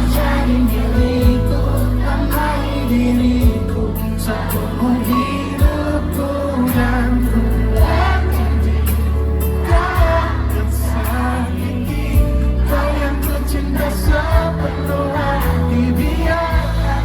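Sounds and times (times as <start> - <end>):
heavy bass: 0.0 - 17.0
live band playing pop ballad: 0.0 - 17.0.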